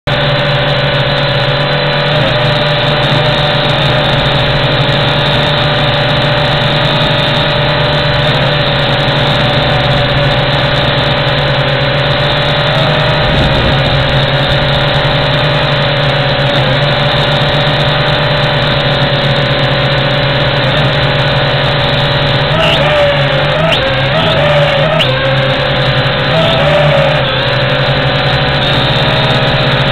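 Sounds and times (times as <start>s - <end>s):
drone motors whining: 0.1s - 29.9s.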